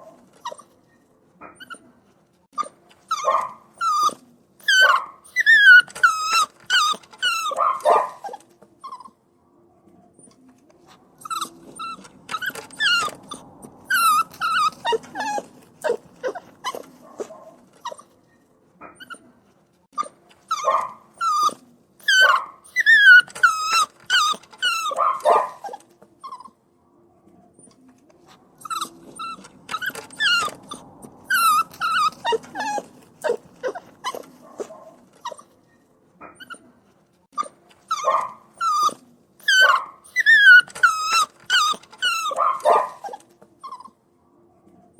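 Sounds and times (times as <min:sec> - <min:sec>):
puppies whining and crying: 0:00.3 - 0:00.8, 0:01.5 - 0:01.9, 0:02.6 - 0:09.2, 0:10.2 - 0:18.2, 0:18.9 - 0:19.3, 0:20.0 - 0:26.6, 0:28.6 - 0:35.6, 0:36.2 - 0:36.8, 0:37.4 - 0:44.0.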